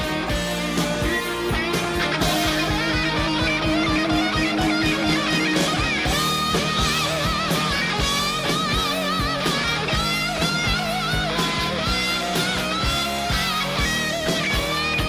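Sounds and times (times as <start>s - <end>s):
electric guitar lines: 0.0s - 15.0s
steady drum beat: 0.0s - 15.0s.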